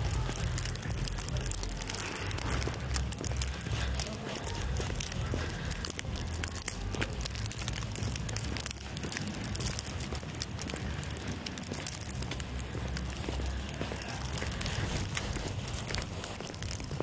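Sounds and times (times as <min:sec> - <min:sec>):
light crackles and clicks: 0:00.0 - 0:17.0
steady low rumble: 0:00.0 - 0:17.0.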